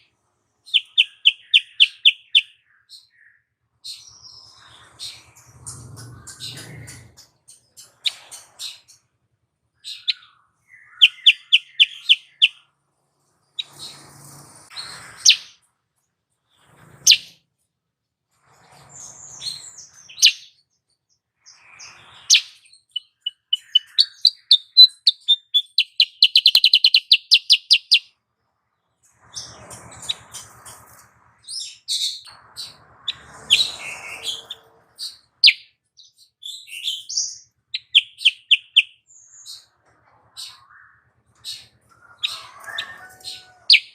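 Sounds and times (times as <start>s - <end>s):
bird chirps and trills: 0.0s - 9.1s, 9.8s - 12.7s, 13.4s - 15.6s, 16.5s - 17.4s, 18.7s - 28.2s, 29.0s - 43.9s.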